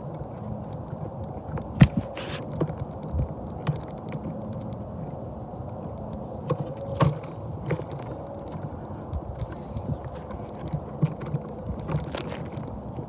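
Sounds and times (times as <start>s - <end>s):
wheels clicking and clacking: 0.0s - 13.0s.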